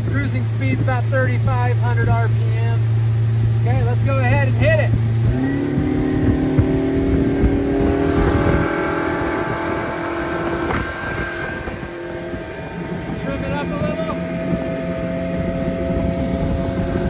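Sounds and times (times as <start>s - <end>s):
outboard motor running: 0.0s - 17.0s
water rushing off hull: 0.0s - 17.0s.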